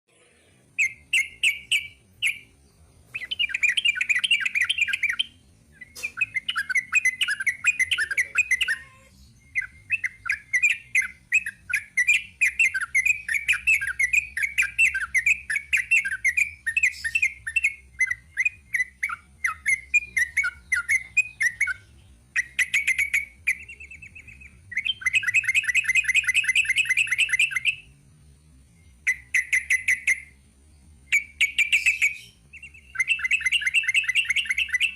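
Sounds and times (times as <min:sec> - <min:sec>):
bulbul chattering song: 0:00.7 - 0:28.0, 0:28.8 - 0:34.9.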